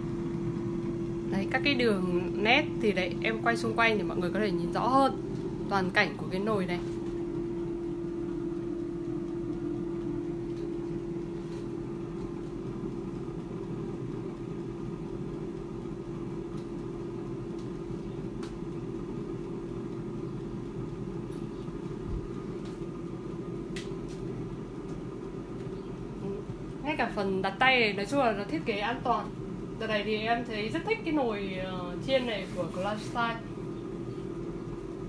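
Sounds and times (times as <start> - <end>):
air fryer fan humming: 0.0 - 35.0.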